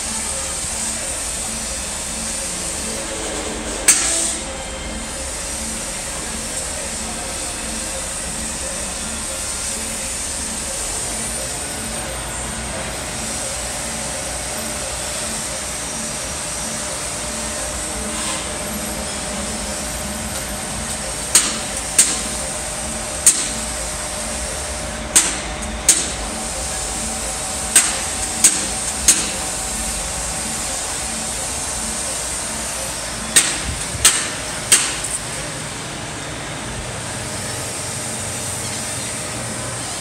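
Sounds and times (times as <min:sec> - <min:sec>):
machine drone: 0:00.0 - 0:40.0.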